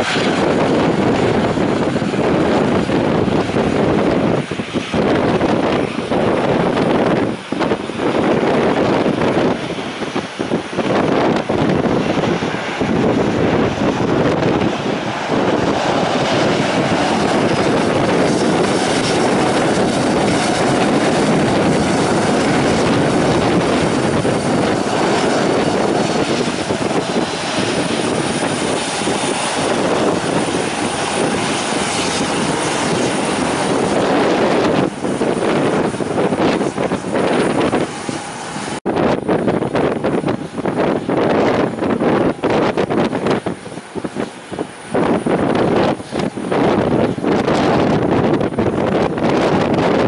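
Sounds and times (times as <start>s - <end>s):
loud aircraft engine: 0.0s - 50.0s
wind buffeting microphone: 0.0s - 50.0s.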